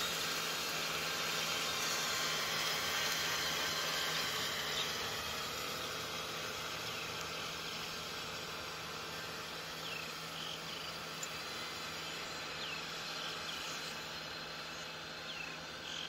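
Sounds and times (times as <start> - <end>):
tiller churning mud: 0.0 - 16.0
tractor diesel engine running: 0.0 - 16.0.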